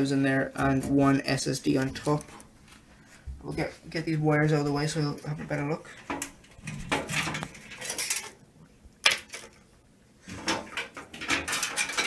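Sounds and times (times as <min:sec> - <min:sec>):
cables rustling and scraping: 0:00.6 - 0:12.0.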